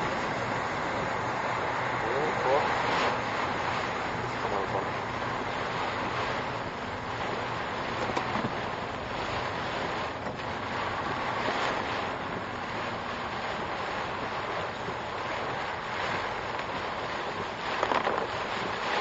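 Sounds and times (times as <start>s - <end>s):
heavy rain on a car: 0.0s - 19.0s
strong wind: 0.0s - 19.0s.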